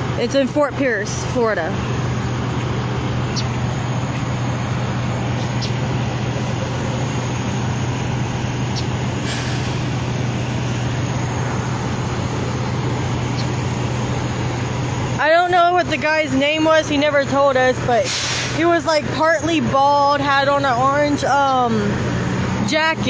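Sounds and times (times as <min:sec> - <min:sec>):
traffic noise low hum: 0:00.0 - 0:23.0.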